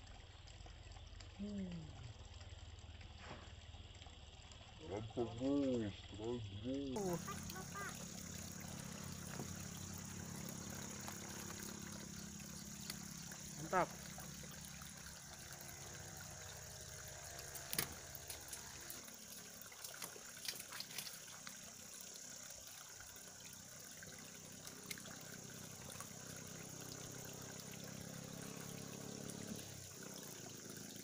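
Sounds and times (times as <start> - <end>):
outdoor background hiss: 2.8 - 31.0.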